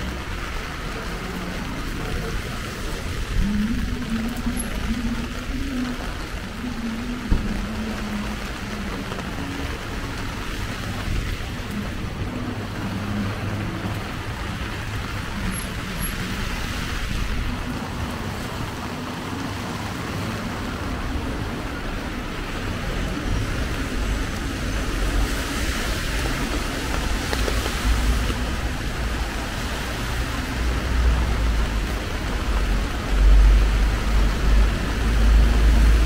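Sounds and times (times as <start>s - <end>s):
heavy rain: 0.0s - 36.0s
low vehicle rumble: 0.0s - 36.0s
road traffic: 0.0s - 36.0s.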